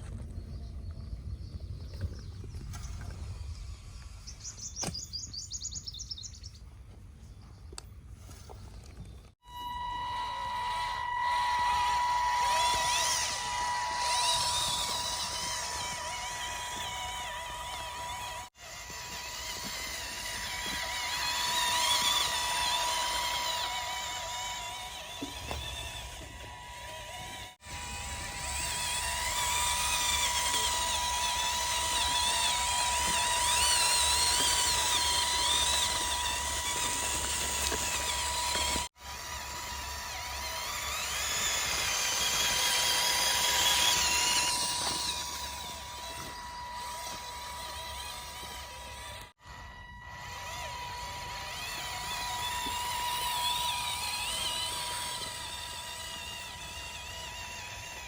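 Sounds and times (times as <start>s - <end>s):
electric motors whining: 2.0s - 7.1s, 7.7s - 58.0s.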